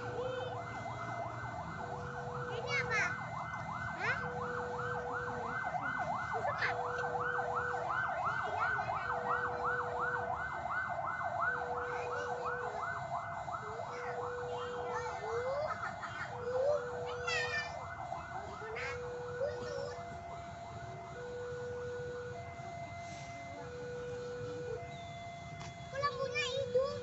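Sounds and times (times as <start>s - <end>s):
low steady alarm tone: 0.0s - 27.0s.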